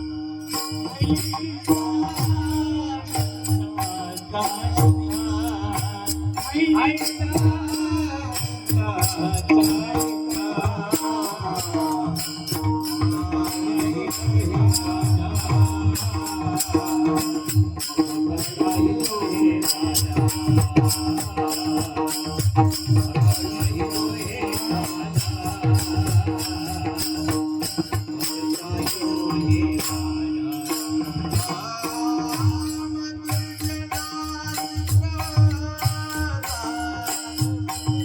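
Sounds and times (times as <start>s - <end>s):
jingling percussion: 0.0s - 38.0s.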